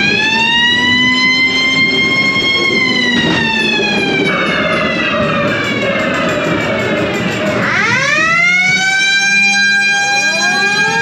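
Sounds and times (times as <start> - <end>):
siren-like wail: 0.0 - 11.0.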